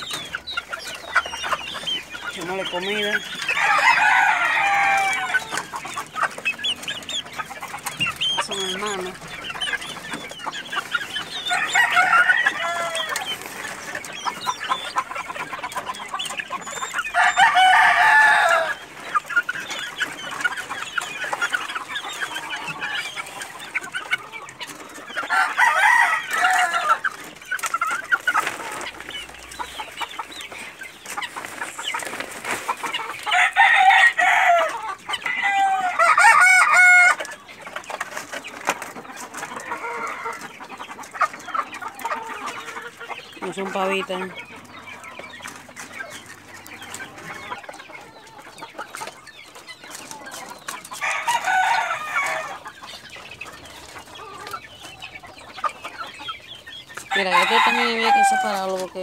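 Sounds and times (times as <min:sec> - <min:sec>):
roosters crowing: 0:00.0 - 0:37.6, 0:39.4 - 0:59.0
chickens clucking and chirping: 0:00.0 - 0:59.0.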